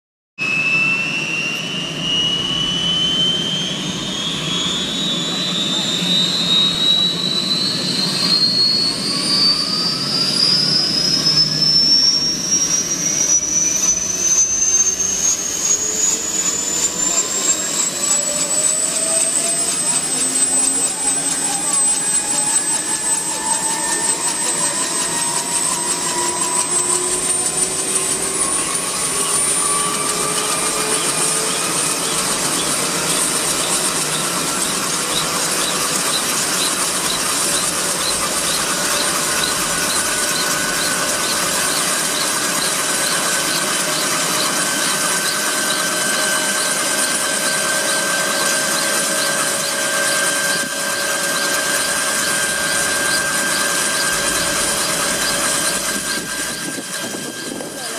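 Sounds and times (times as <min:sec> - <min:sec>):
helicopter turbine whine: 0:00.4 - 0:57.9.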